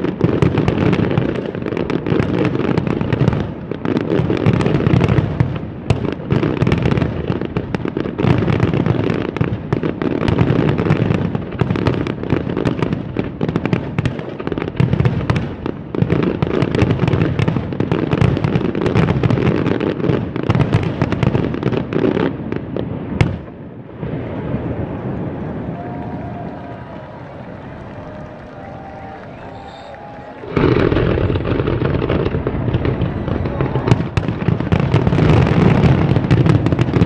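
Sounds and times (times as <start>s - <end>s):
fireworks booming and crackling: 0.0s - 37.0s.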